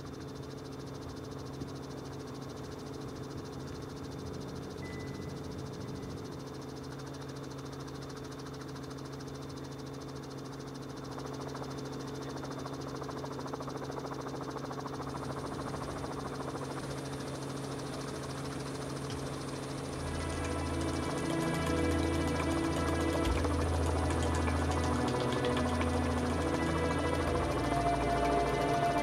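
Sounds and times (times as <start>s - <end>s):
faint high whine: 0.0s - 29.0s
pulsing engine drone: 0.0s - 29.0s.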